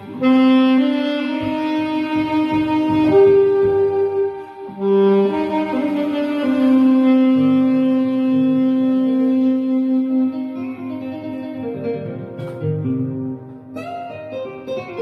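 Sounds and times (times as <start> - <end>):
saxophone melody: 0.0 - 15.0.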